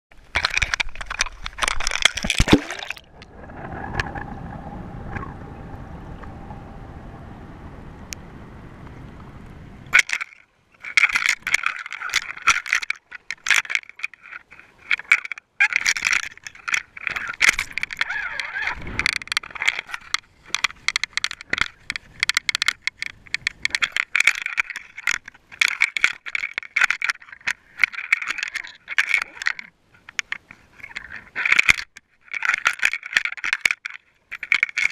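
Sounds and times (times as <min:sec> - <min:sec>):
camera rattling underwater: 0:00.1 - 0:06.5, 0:09.9 - 0:34.9.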